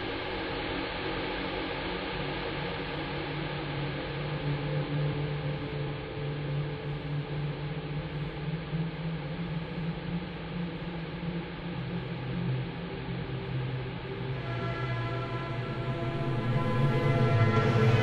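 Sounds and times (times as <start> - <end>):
low ambient drone: 0.0 - 18.0.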